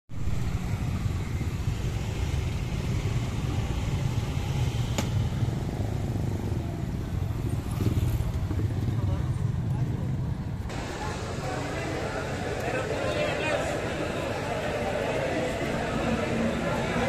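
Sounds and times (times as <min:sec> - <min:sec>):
motorcycle engines rumbling: 0:00.1 - 0:17.0.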